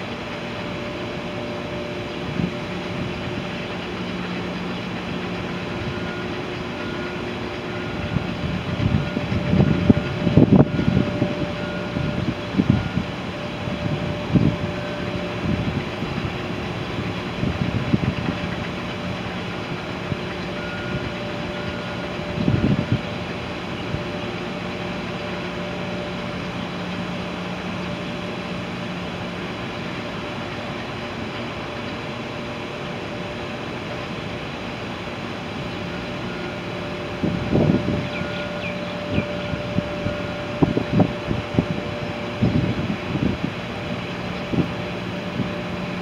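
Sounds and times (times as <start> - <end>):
steady mechanical hum: 0.0 - 46.0
wind buffeting microphone: 0.0 - 46.0.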